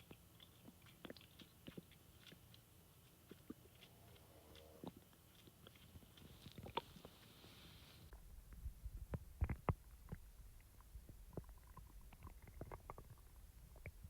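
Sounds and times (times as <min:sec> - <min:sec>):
stomach growling and gurgling: 0:00.0 - 0:02.5, 0:03.3 - 0:07.2, 0:08.1 - 0:14.0.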